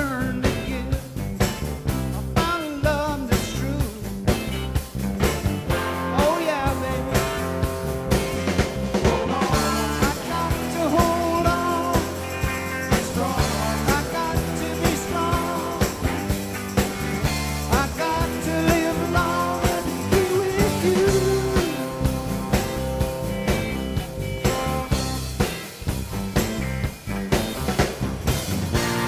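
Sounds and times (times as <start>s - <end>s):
rock music: 0.0s - 29.0s.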